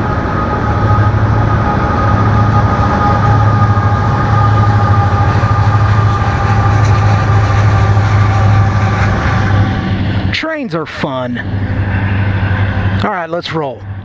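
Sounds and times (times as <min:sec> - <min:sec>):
high-pitched tones: 0:00.0 - 0:14.0
train rumbling past: 0:00.0 - 0:14.0.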